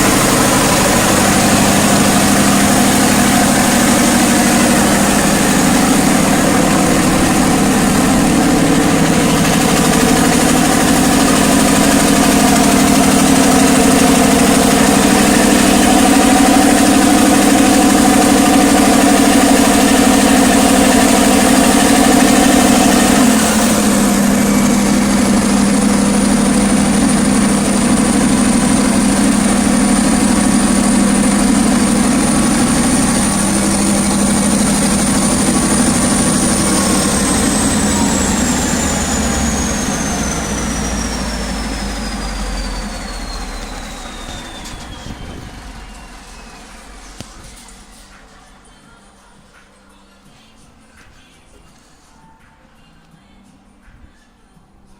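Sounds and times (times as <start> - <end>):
diesel generator droning: 0.0 - 50.4.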